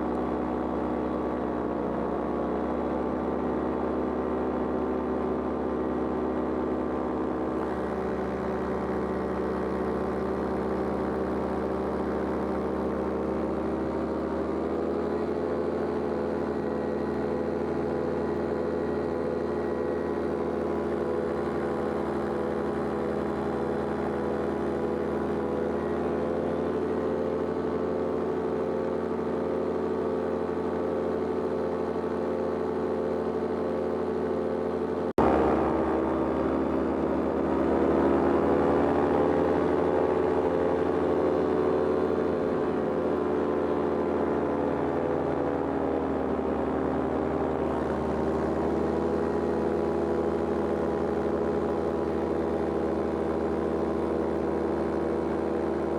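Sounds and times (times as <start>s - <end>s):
paraglider engine and propeller: 0.0s - 55.9s.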